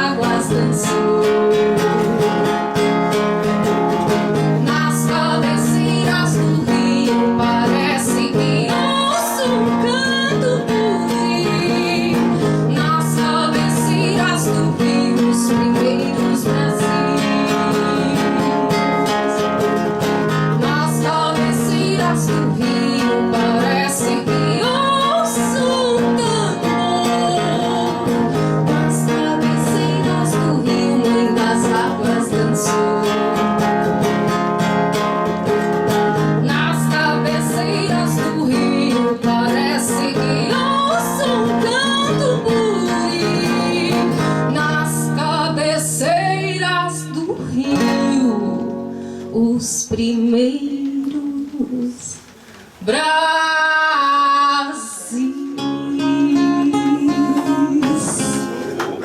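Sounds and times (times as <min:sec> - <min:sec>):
strummed acoustic guitar: 0:00.0 - 0:52.9, 0:54.7 - 0:59.0
sliding guitar lead line: 0:00.0 - 0:59.0.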